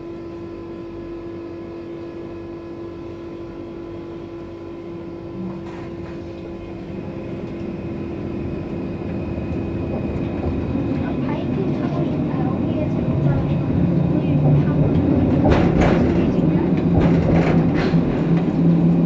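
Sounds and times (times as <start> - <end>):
tram electrical hum: 0.0 - 19.0
tram running noise: 0.0 - 19.0.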